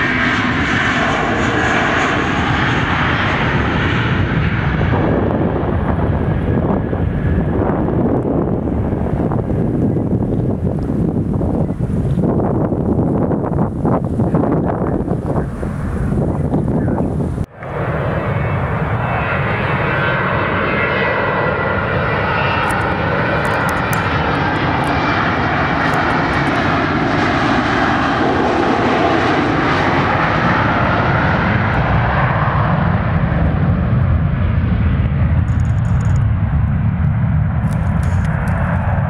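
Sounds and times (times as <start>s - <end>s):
jet engine roar: 0.0s - 39.0s
jet engine whine: 0.0s - 39.0s
low rumble: 1.0s - 27.3s, 29.8s - 39.0s.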